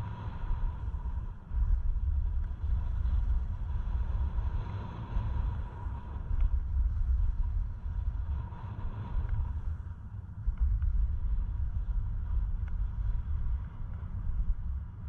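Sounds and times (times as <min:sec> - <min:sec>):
faint steady tone: 0:00.0 - 0:15.0
gusty wind rumble on microphone: 0:00.0 - 0:15.0.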